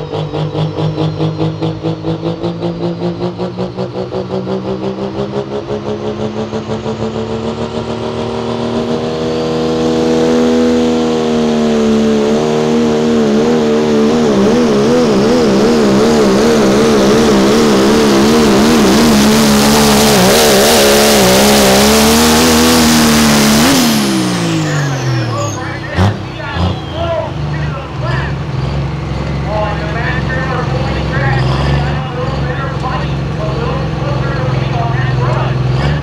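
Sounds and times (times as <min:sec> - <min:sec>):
truck engine at full throttle: 0:00.0 - 0:36.0.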